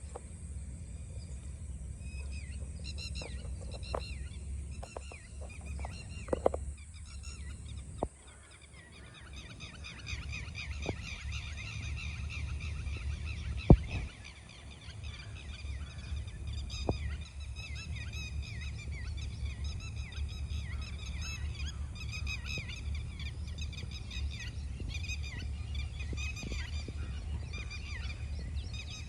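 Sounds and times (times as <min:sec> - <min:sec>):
birds calling: 0:00.0 - 0:29.0
steady low rumble: 0:00.0 - 0:29.0.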